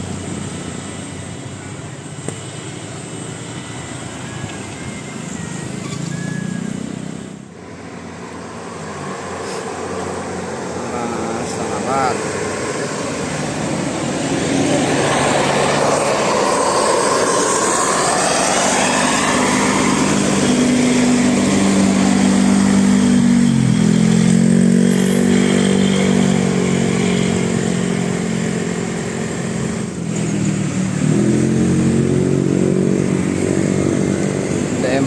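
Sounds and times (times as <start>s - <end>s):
bus engine accelerating: 0.0s - 35.0s
traffic noise: 0.0s - 35.0s.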